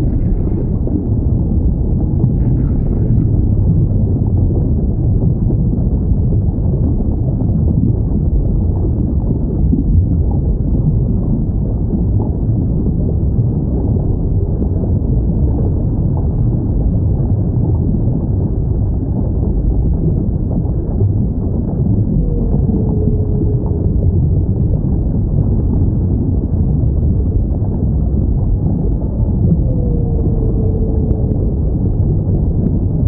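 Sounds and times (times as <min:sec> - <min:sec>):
deep underwater rumble: 0:00.0 - 0:33.0.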